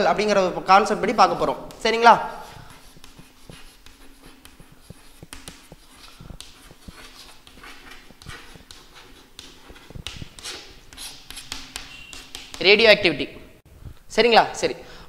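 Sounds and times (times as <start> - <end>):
chalk tapping and scratching on blackboard: 0.7 - 12.9.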